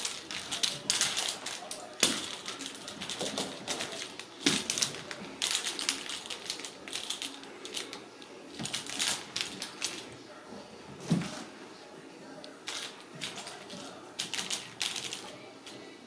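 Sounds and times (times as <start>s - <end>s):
kittens playing with toys: 0.0s - 11.6s, 12.2s - 16.0s.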